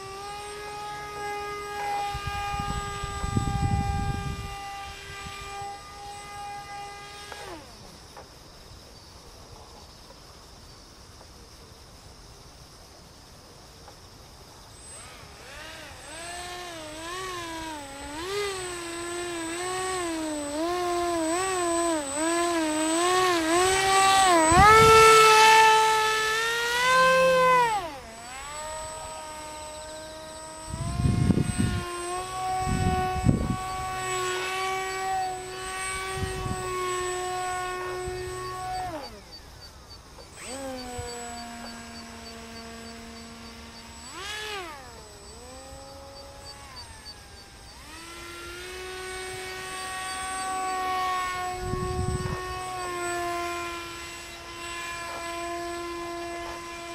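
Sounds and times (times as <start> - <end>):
model plane propeller whining: 0.0 - 8.6, 13.8 - 56.9.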